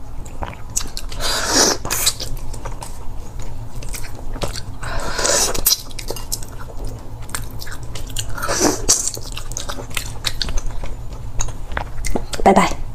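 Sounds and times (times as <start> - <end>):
crunchy chewing: 0.2 - 12.4.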